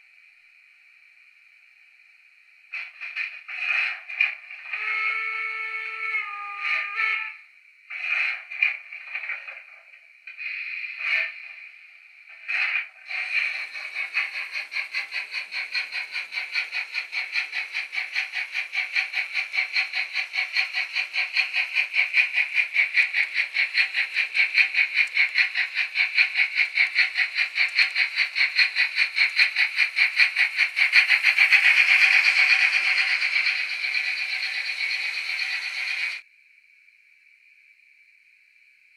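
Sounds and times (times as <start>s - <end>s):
model steam locomotive chuffing: 0.0s - 36.3s.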